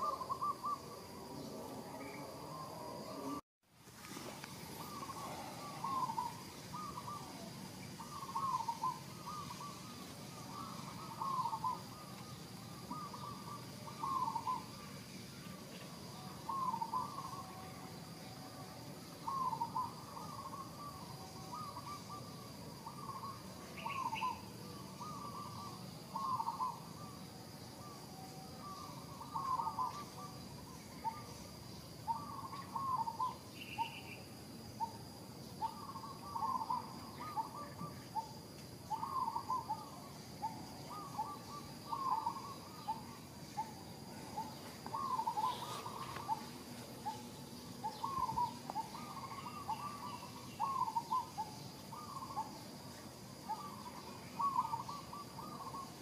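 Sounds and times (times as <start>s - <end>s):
hooting animal calls: 0.0s - 3.4s, 4.7s - 14.9s, 16.1s - 18.1s, 19.2s - 27.2s, 27.8s - 31.4s, 32.0s - 34.2s, 35.6s - 52.7s, 53.4s - 56.0s.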